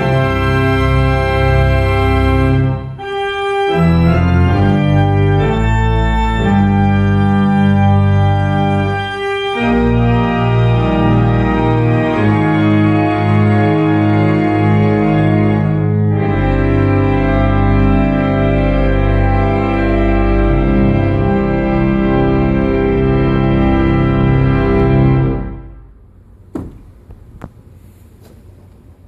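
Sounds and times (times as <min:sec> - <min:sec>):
church organ chords: 0:00.0 - 0:26.2.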